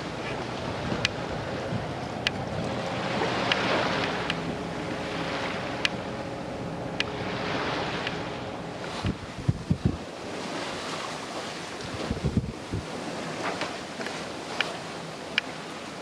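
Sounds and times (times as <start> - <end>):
wind buffeting microphone: 0.0 - 15.2
water rushing along boat hull: 0.0 - 16.0.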